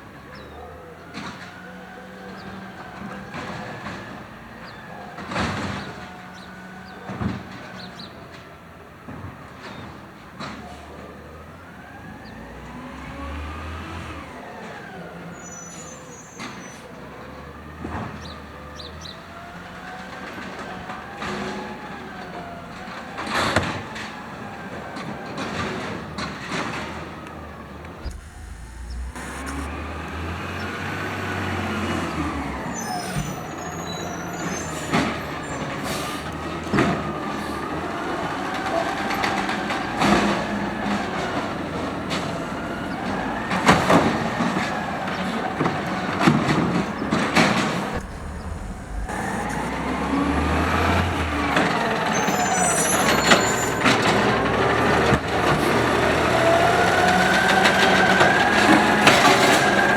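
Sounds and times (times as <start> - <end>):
truck engine and hydraulics revving: 0.0 - 59.9.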